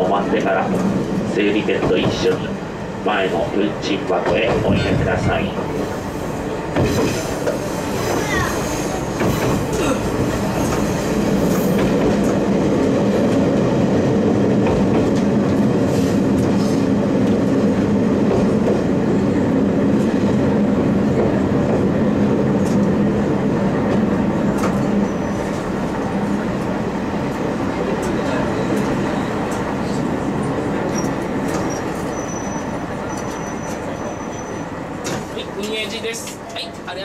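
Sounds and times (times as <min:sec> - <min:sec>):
diesel railcar engine drone: 0:00.0 - 0:37.0.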